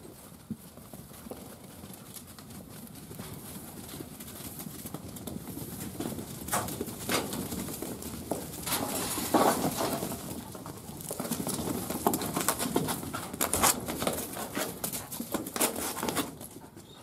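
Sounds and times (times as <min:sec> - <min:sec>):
sheep hooves trotting on dirt: 0:00.0 - 0:17.0.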